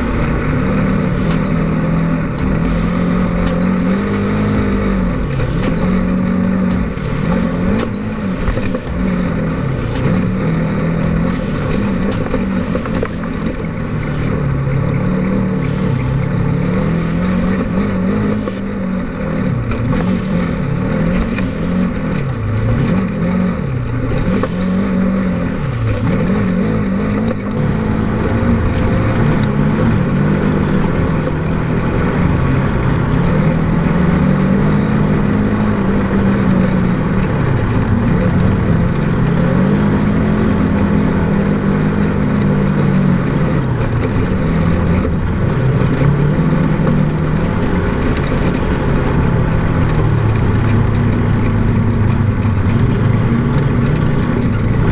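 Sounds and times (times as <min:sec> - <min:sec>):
engine revving under way: 0:00.0 - 0:54.9.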